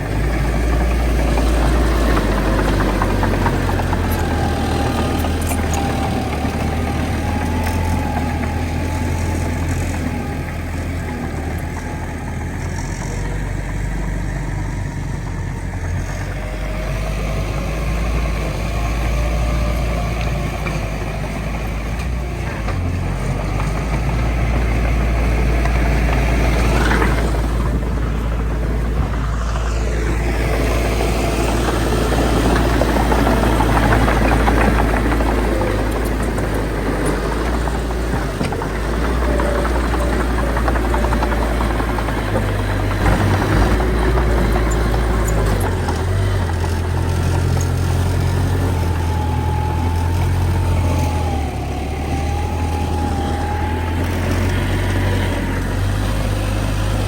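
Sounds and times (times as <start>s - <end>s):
heavy machinery engine rumble: 0.0s - 57.0s.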